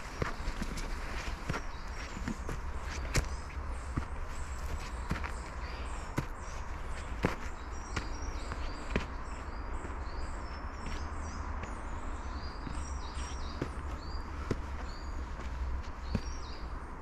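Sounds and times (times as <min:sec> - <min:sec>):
sharp footsteps: 0:00.0 - 0:17.0
small birds chirping: 0:00.0 - 0:17.0.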